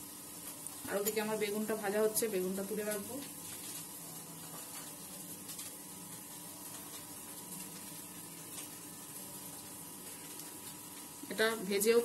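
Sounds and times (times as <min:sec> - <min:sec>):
eggplant sizzling in oil: 0:00.0 - 0:12.0
faint steady hum: 0:00.0 - 0:12.0.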